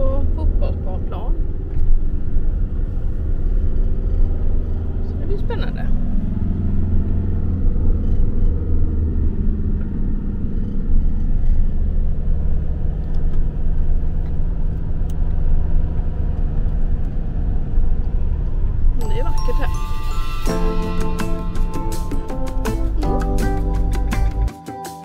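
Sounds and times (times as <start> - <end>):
road noise: 0.0 - 24.5
van engine rumble: 0.0 - 24.5.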